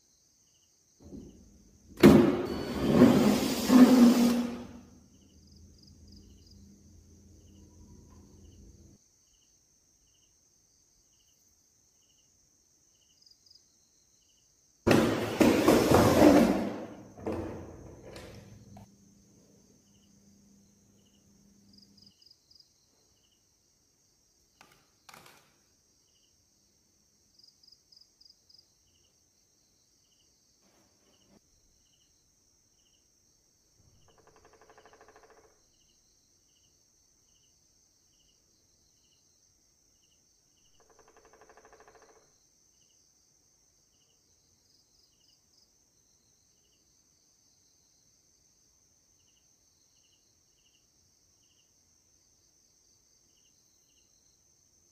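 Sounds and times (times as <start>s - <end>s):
insects chirping: 0.0s - 14.8s, 15.4s - 54.9s.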